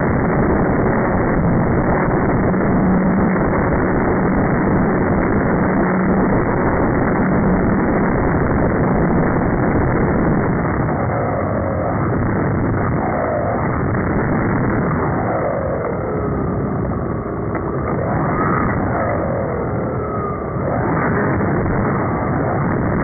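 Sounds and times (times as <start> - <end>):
wind on microphone: 0.0 - 23.0.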